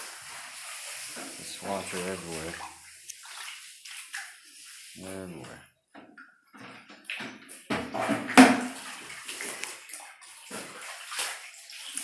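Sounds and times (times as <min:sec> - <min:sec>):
floodwater sloshing and splashing: 0:00.0 - 0:12.0.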